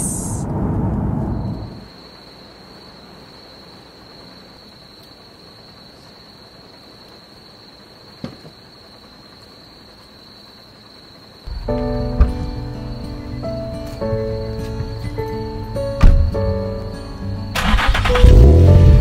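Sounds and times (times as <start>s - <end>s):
crickets trilling: 0.0s - 18.6s.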